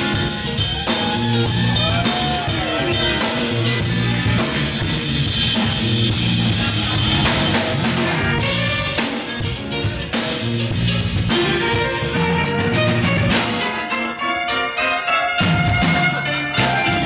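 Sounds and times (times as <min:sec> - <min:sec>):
congas: 0:00.0 - 0:17.0
drum kit: 0:00.0 - 0:17.0
electric guitar: 0:00.0 - 0:17.0
keyboard: 0:00.0 - 0:17.0.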